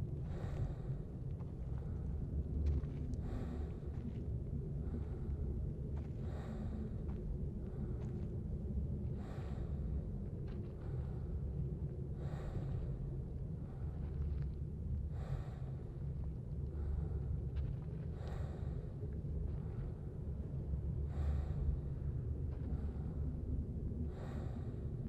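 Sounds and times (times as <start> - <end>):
steady low rumble: 0.0 - 25.0
slow deep breathing: 0.1 - 25.0.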